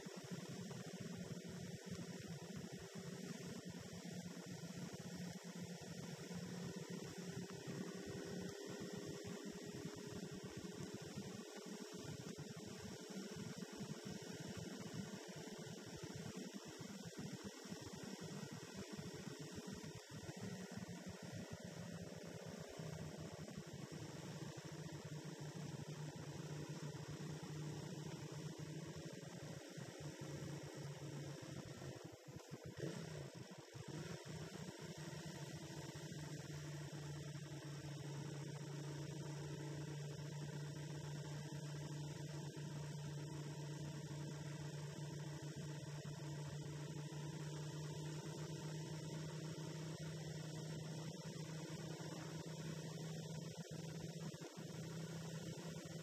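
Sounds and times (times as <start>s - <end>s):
motorcycle engine humming: 0.0s - 13.9s, 19.1s - 56.0s.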